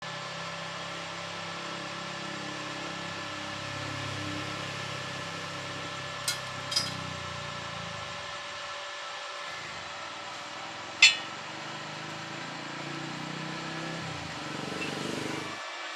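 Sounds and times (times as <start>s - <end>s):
machine hum with hiss: 0.1s - 15.9s.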